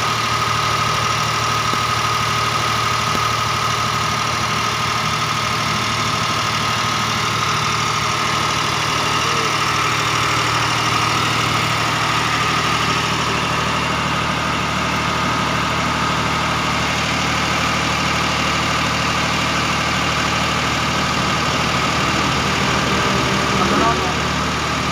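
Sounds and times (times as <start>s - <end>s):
welding machine engine idling: 0.0s - 24.9s.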